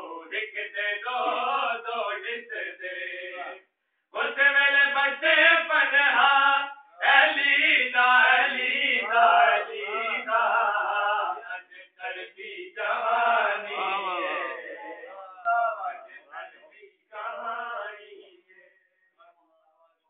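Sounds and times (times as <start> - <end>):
men chanting: 0.0 - 18.6.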